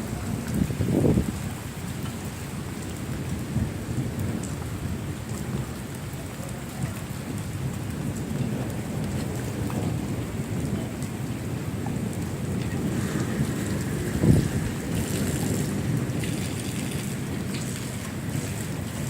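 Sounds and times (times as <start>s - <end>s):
heavy rain: 0.0s - 19.0s
low thunder rumble: 0.0s - 19.0s.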